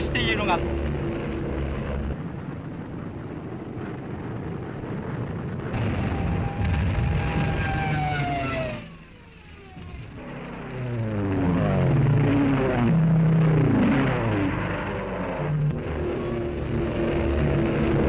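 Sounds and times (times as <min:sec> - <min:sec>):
aircraft engine drone: 0:00.0 - 0:18.0
plane diving past whine: 0:00.0 - 0:18.0.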